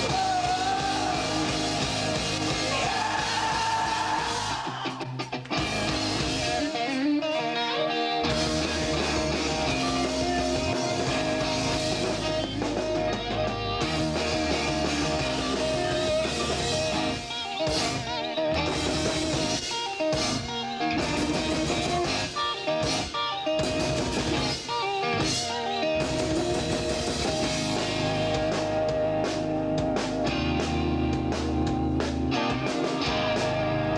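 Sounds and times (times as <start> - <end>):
rock band playing: 0.0 - 33.9.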